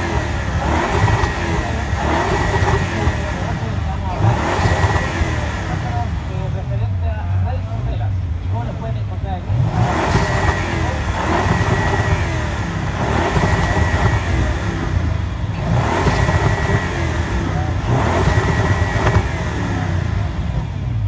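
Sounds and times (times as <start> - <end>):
car engine idling with revs: 0.0 - 21.0.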